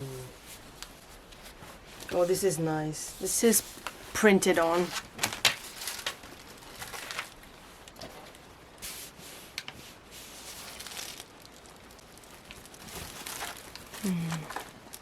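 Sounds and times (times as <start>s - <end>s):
fabric rustling: 0.3s - 14.9s.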